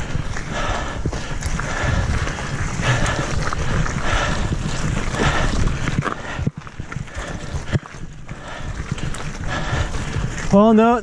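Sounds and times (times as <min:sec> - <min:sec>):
mountain bike rattling over dirt: 0:00.0 - 0:11.0.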